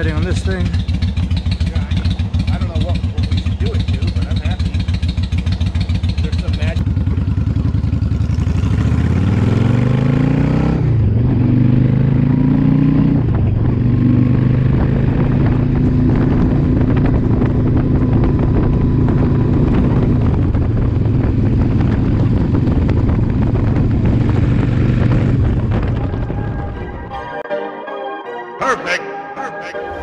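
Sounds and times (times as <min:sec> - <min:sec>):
motorcycle engine accelerating: 0:00.0 - 0:27.3.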